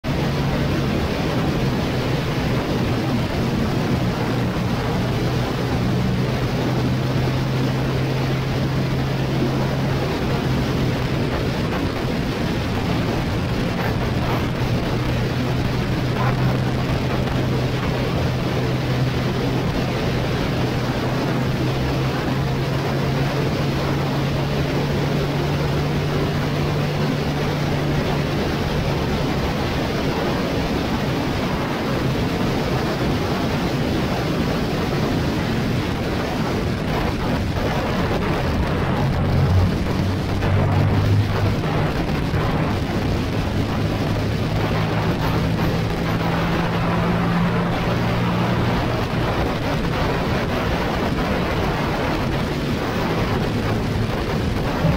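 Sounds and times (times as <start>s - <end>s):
motorcycle engine: 0.0s - 32.4s, 35.1s - 54.9s
wind rush on microphone: 0.0s - 54.9s.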